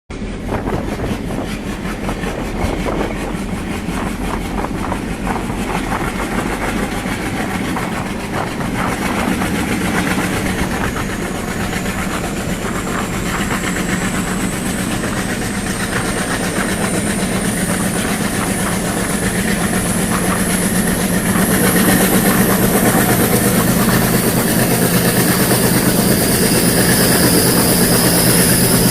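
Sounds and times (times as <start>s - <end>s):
train rumble: 0.1s - 28.9s
train whine climbing in pitch: 0.1s - 28.9s
wheels clattering on rail joints: 0.1s - 28.9s.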